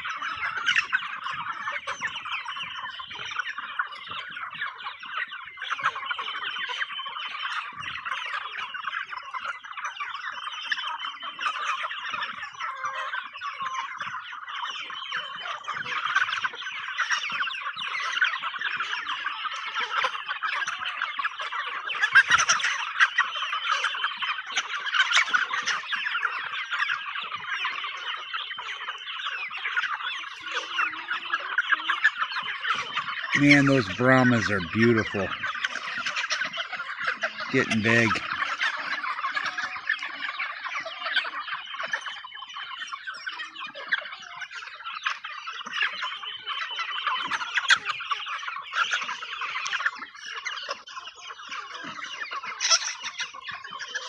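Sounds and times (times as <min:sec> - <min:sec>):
chickens clucking and chattering: 0:00.0 - 0:54.0.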